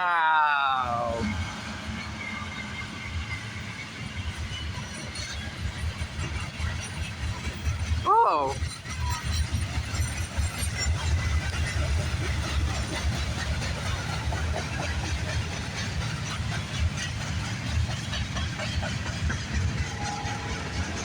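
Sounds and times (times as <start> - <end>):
train cars clacking: 0.0 - 21.0
train wheels rumbling on rail: 0.0 - 21.0.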